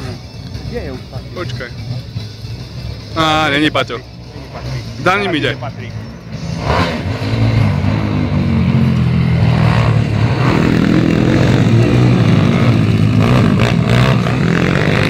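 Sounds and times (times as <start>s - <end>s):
pit bike engines revving: 0.0s - 15.0s.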